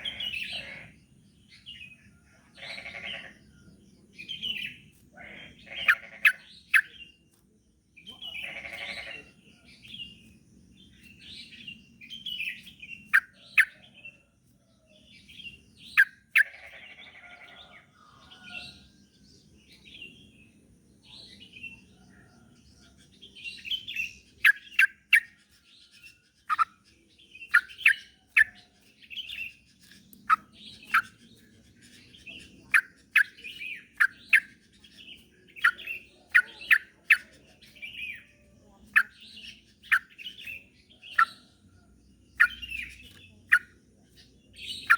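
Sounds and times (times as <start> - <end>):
bird singing and chirping: 0.0 - 44.9.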